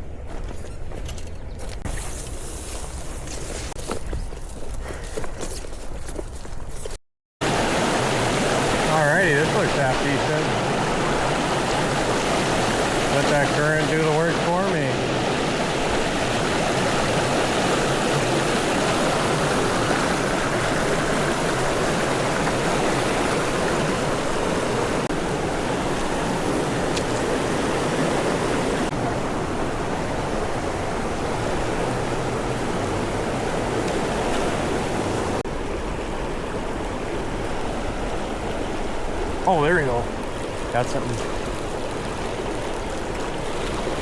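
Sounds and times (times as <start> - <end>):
river water flowing: 7.4 - 44.0.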